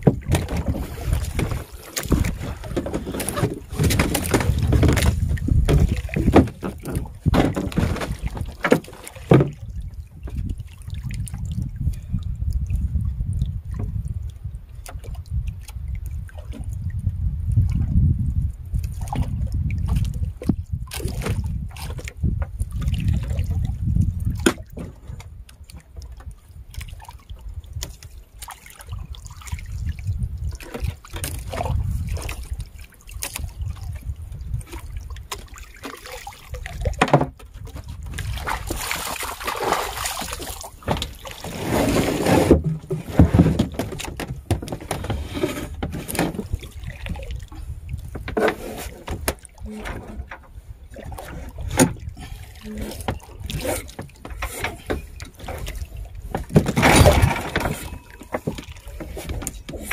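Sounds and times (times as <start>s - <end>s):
water splashing against boat: 0.0s - 59.9s
wind rumble on microphone: 0.0s - 59.9s.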